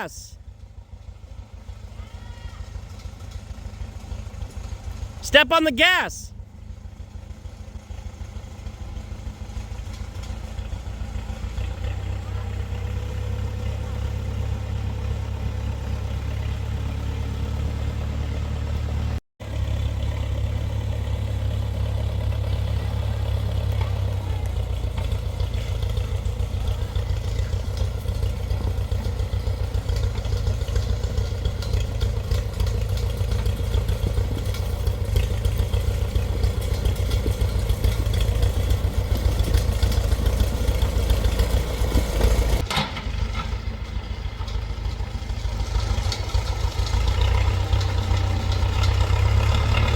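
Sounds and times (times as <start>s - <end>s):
backhoe engine running with clatter: 0.0s - 49.9s.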